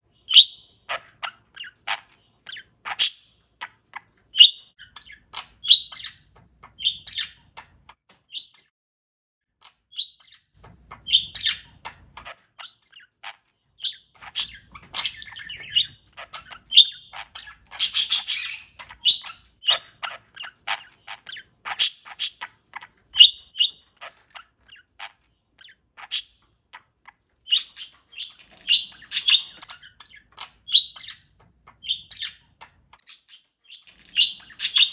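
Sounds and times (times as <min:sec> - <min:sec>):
parakeet chirping: 0:00.1 - 0:08.7, 0:09.6 - 0:34.9
parakeet squawk: 0:00.2 - 0:08.7, 0:09.6 - 0:34.9.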